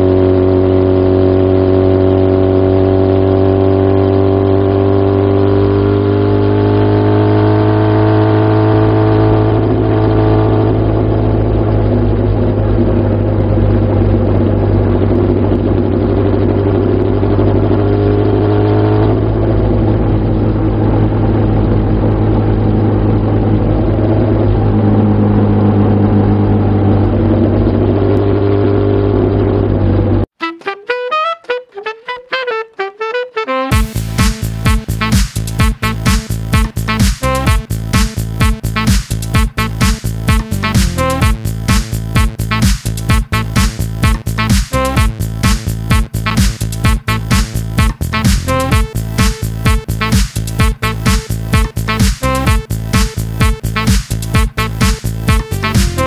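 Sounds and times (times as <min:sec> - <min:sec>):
motorcycle engine revving: 0:00.0 - 0:30.4, 0:33.7 - 0:56.0.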